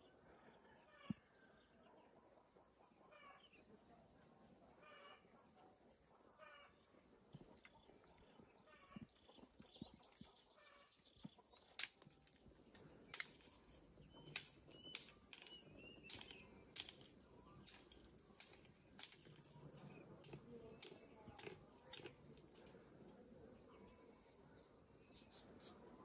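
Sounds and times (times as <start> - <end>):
high insect drone: 4.4 - 26.0.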